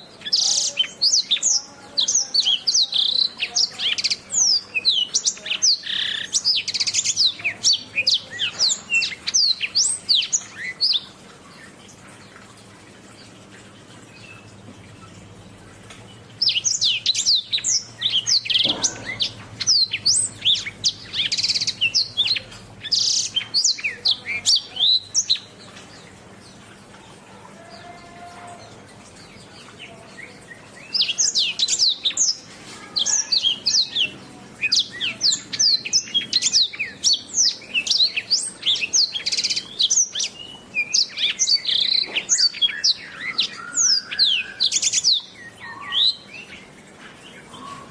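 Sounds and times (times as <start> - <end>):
canary singing chirps and trills: 0.0 - 47.9.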